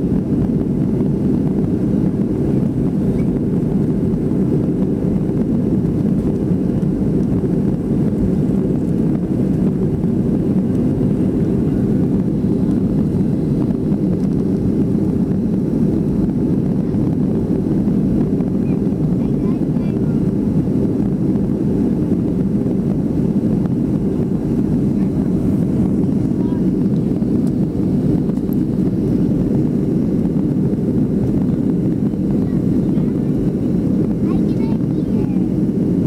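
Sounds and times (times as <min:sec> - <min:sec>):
airplane cabin engine drone: 0:00.0 - 0:36.0.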